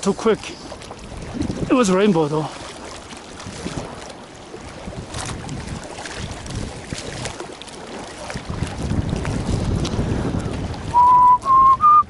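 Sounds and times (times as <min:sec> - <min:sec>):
water wash: 0:00.0 - 0:12.0
wind buffeting microphone: 0:00.0 - 0:12.0.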